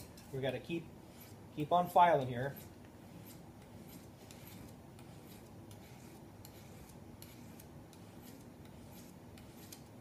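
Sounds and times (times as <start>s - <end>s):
file rasping on steel: 0.0s - 10.0s.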